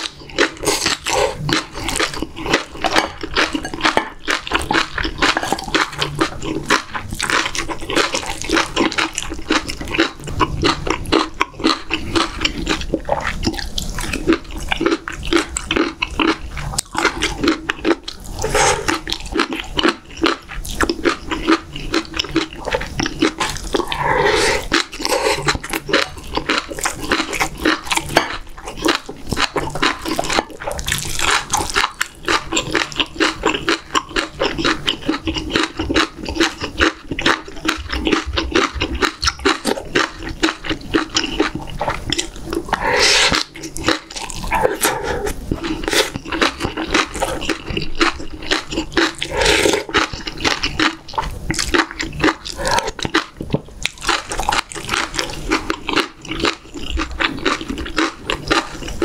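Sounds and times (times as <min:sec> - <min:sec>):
wet chewing and lip smacking: 0:00.0 - 0:59.0.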